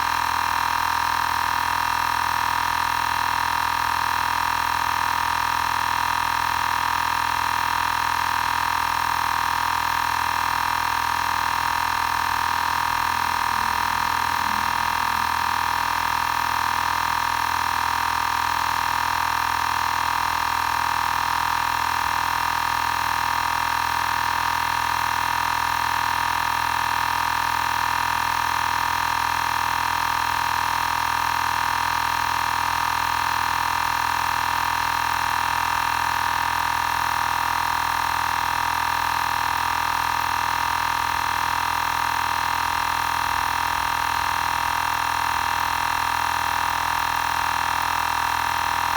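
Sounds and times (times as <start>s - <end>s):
air compressor running: 0.0s - 48.9s.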